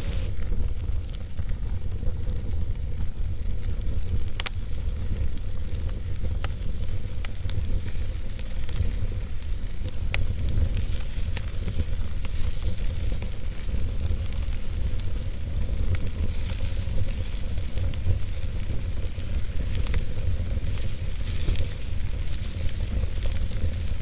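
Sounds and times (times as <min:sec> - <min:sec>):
fire crackling in fireplace: 0:00.0 - 0:24.0.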